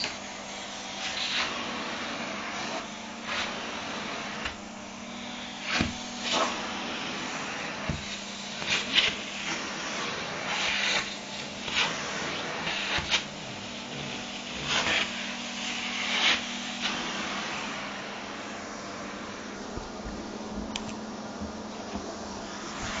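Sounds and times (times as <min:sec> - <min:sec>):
vacuum cleaner humming: 0:00.0 - 0:23.0.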